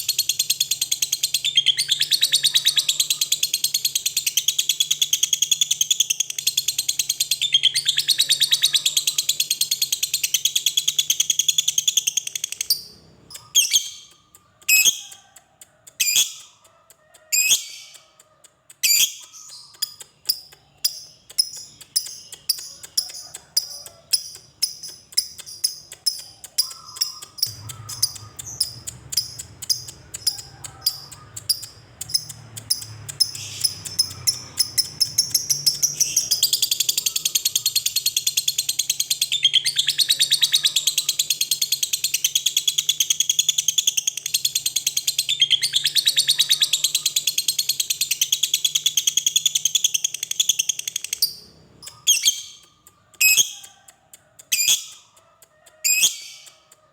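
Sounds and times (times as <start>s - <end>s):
lovebird chirping and chattering: 0.0s - 56.9s.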